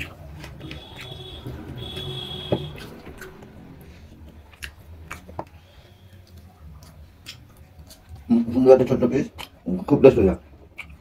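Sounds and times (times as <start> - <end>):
chewing: 0.0 - 8.6, 9.2 - 9.9, 10.6 - 11.0.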